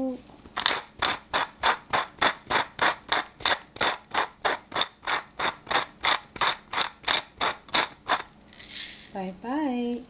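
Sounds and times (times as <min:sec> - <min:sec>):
pepper mill grinding: 0:00.4 - 0:10.0.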